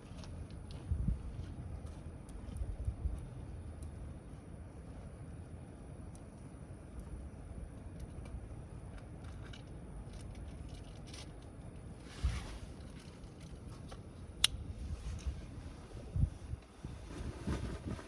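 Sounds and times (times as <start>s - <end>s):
steady low rumble: 0.0s - 18.0s
campfire crackling: 1.6s - 16.7s.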